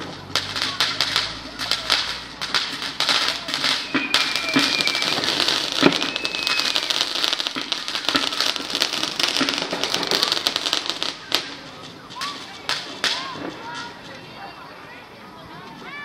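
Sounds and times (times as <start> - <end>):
sharp crack: 0.0 - 14.2
fireworks crackling: 0.0 - 16.0.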